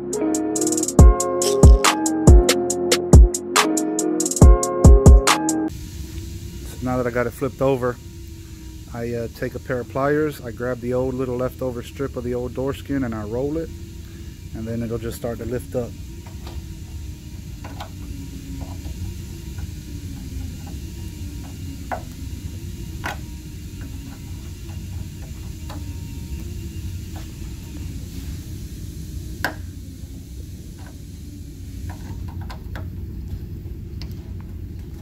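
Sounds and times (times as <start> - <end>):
low shop hum: 5.7 - 35.0.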